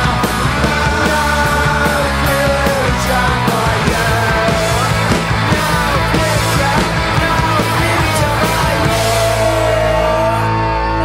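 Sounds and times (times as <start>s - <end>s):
punk rock song: 0.0s - 11.0s.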